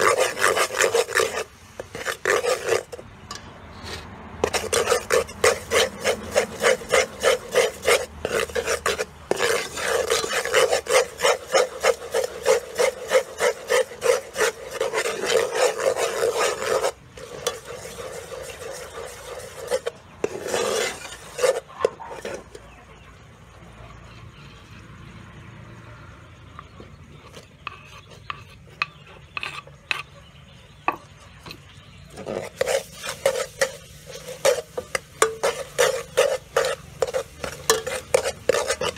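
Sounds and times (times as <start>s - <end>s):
metal ladle scraping pot: 0.0s - 23.0s, 26.5s - 38.9s.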